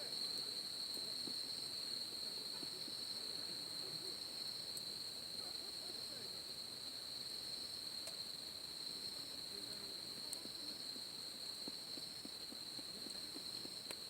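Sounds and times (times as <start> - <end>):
night insect chorus: 0.0 - 14.0.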